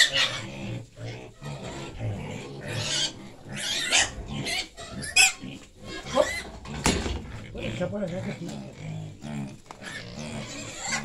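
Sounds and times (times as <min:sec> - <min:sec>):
piglets grunting: 0:00.0 - 0:11.0.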